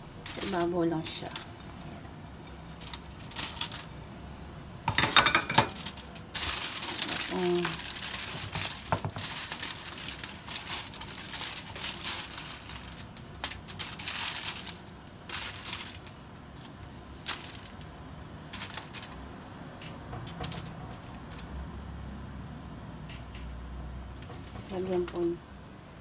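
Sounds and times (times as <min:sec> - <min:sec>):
aluminium foil crinkling: 0:00.0 - 0:25.4.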